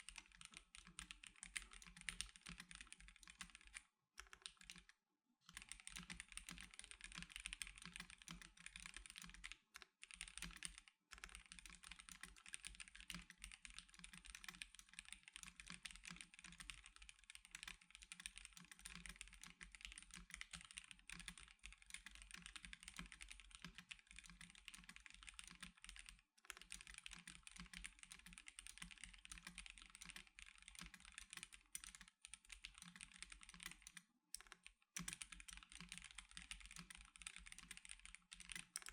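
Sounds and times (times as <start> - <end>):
mechanical keyboard typing: 0.0 - 4.9, 5.5 - 38.9.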